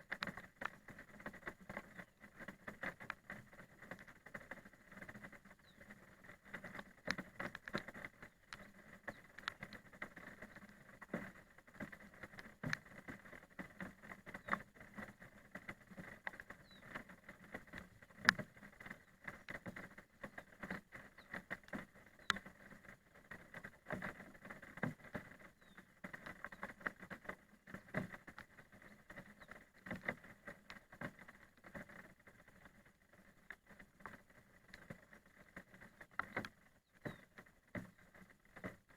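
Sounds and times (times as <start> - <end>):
raindrops tapping: 0.0 - 38.9.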